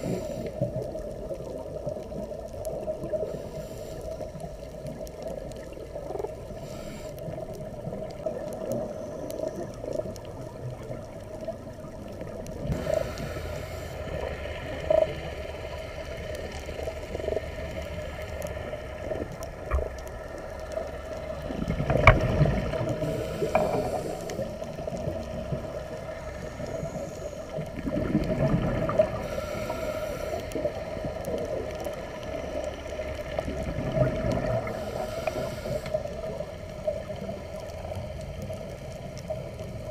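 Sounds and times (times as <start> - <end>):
underwater hum and rumbling: 0.0 - 39.9
regulator bubbles: 4.4 - 39.9.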